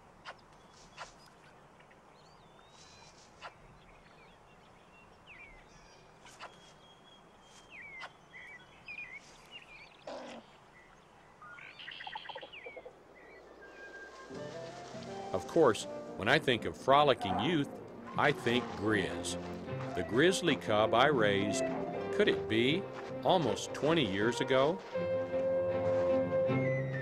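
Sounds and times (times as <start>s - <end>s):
birds chirping: 0.0s - 25.1s.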